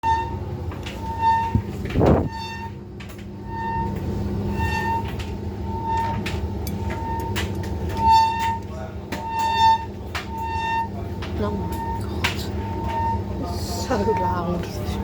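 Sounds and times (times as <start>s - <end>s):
high-pitched squeak: 0.0s - 2.8s, 3.4s - 15.0s
tumble dryer drum rumble: 0.0s - 15.0s.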